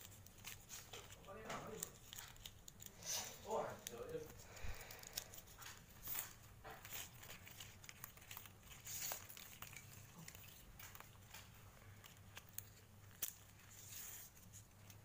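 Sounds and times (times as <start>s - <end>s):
leaf strips rustling and crackling: 0.0s - 15.0s.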